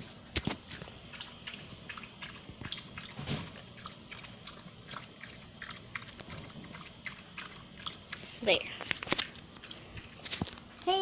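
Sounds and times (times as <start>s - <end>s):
dog lapping water: 0.0s - 11.0s.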